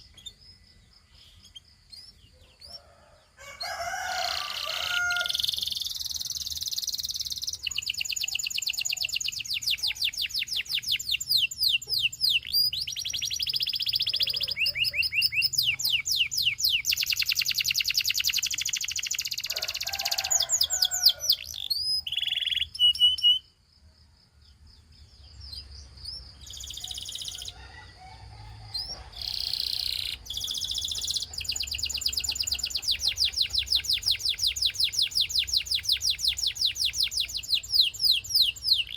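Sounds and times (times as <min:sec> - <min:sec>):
canary singing trills: 0:00.0 - 0:23.6, 0:24.6 - 0:38.9.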